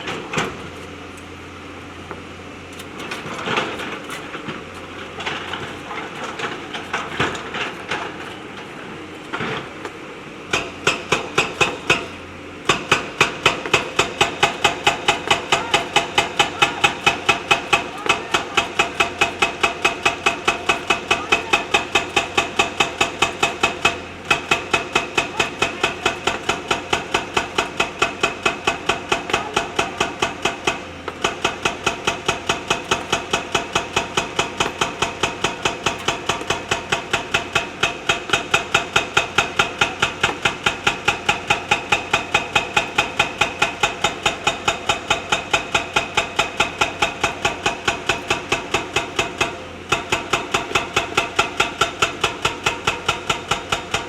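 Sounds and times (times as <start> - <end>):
hydraulic rock breaker pounding stone: 0.0 - 54.0
machine engine running: 2.8 - 51.6.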